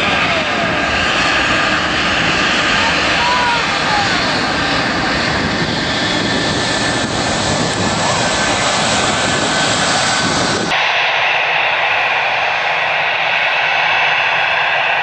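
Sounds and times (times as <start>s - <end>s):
jet engines rushing with whine: 0.0s - 15.0s.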